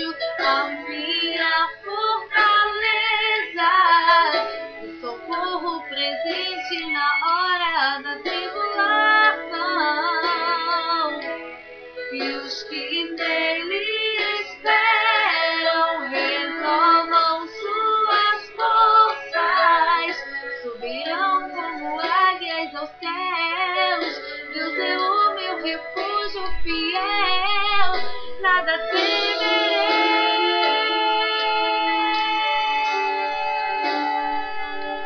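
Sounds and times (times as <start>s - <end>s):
woman singing: 0.0s - 11.4s, 12.1s - 33.9s
instrumental backing: 0.0s - 35.0s.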